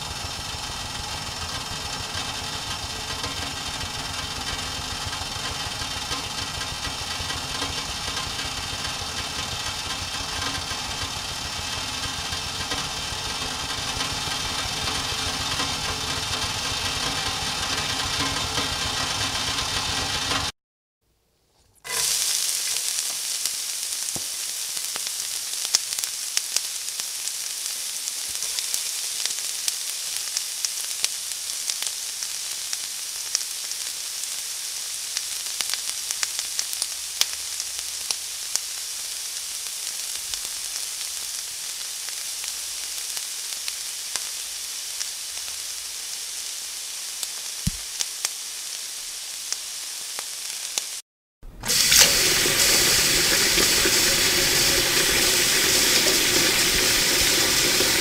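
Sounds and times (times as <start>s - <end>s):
chicken sizzling in hot oil: 0.0s - 20.5s, 21.8s - 58.0s.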